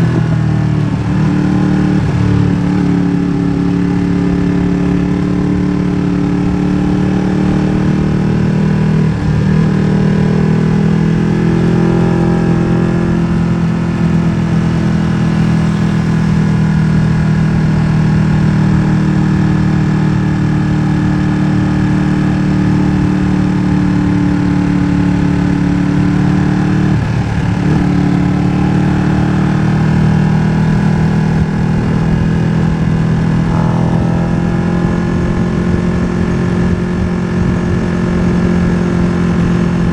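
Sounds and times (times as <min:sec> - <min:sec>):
loud motorcycle engine: 0:00.0 - 0:39.9.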